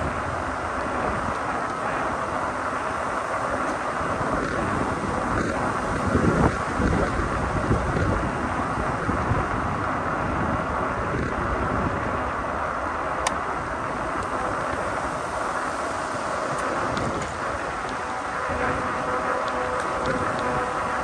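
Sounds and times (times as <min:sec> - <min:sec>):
tyres rolling rumble: 0:00.0 - 0:21.0
wind rushing over microphone: 0:00.0 - 0:21.0.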